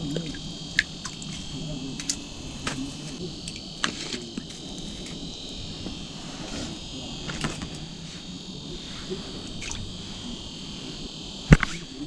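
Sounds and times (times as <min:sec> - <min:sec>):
high-pitched hiss with whine: 0:00.0 - 0:12.0.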